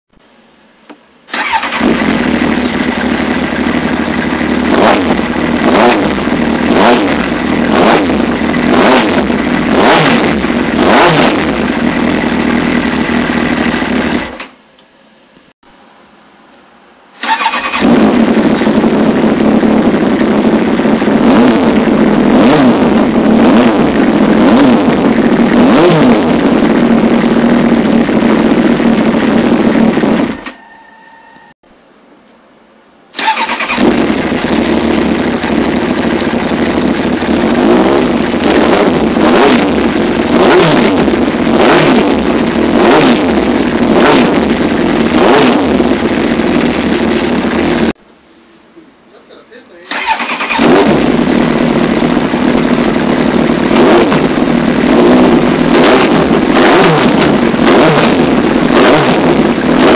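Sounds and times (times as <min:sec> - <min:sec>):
motorcycle engine revving: 0:01.3 - 0:14.5, 0:17.1 - 0:30.6, 0:33.1 - 0:48.0, 0:49.8 - 0:59.9.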